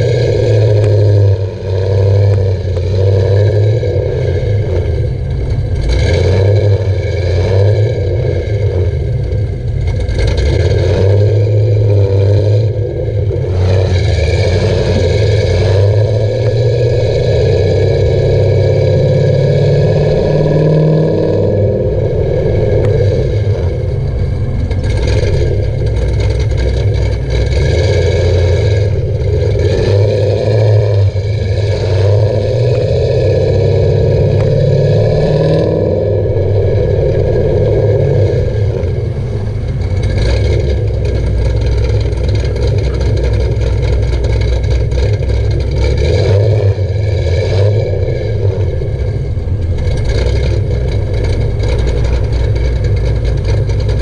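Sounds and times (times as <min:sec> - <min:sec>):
car engine exhaust: 0:00.0 - 0:54.0.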